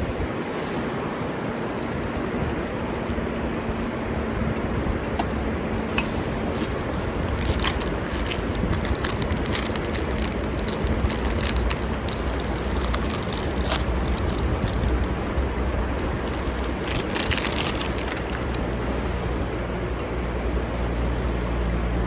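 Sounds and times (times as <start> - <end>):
river water rushing: 0.0 - 22.0
wood fire crackling: 1.7 - 20.4.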